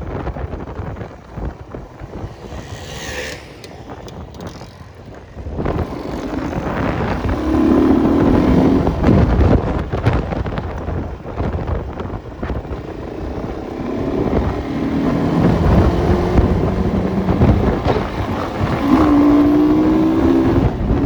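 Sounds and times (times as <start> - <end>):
wind buffeting microphone: 0.0 - 21.0
motorcycle engine revving: 0.9 - 21.0.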